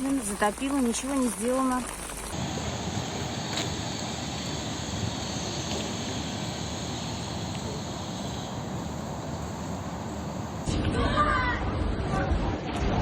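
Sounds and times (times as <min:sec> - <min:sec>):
torrential rain: 0:00.0 - 0:12.6.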